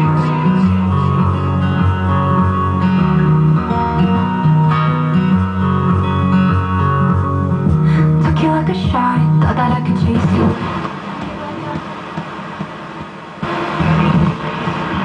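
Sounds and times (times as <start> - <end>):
guitar: 0.0 - 15.0
instrumental music through speakers: 0.0 - 15.0
moving bass line: 0.0 - 15.0.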